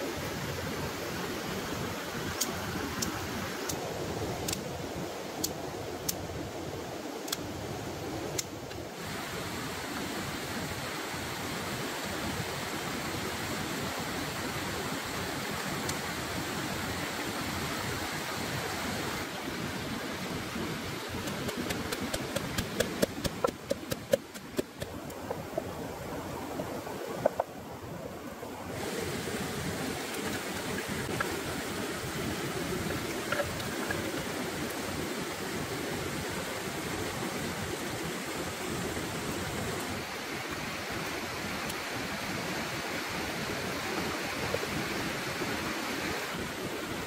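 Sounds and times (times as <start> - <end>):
steady rushing hiss: 0.0 - 47.0.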